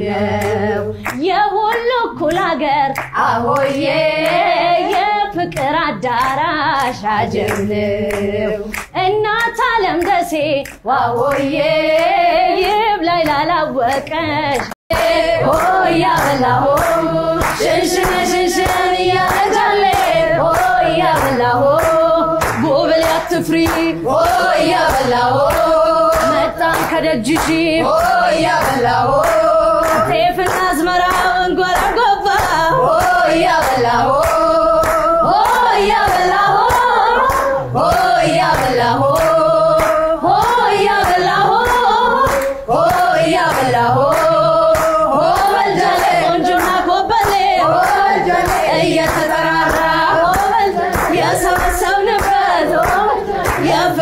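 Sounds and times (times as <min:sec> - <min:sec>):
voices singing along: 0:00.0 - 0:54.0
woman singing: 0:00.0 - 0:54.0
hand-clapping: 0:00.3 - 0:54.0.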